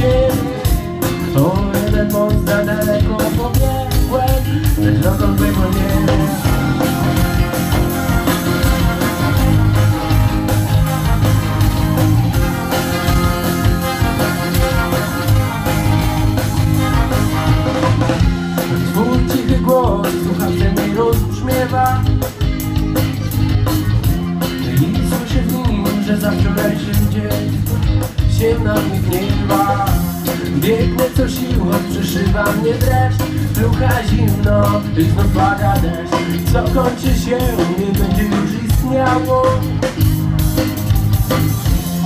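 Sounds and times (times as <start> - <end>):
man singing: 0.0 - 9.6, 12.3 - 22.6, 24.4 - 40.1
live band with horn section: 0.0 - 42.0.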